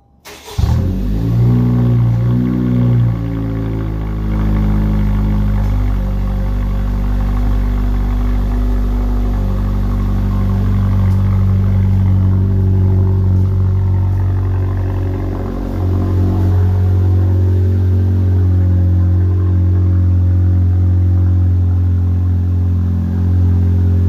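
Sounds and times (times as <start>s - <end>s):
car engine idling: 0.3s - 24.0s.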